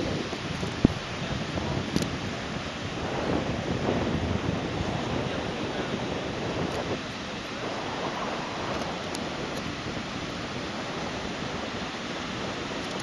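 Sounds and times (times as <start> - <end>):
ocean surf: 0.0 - 13.0
wind: 0.0 - 13.0.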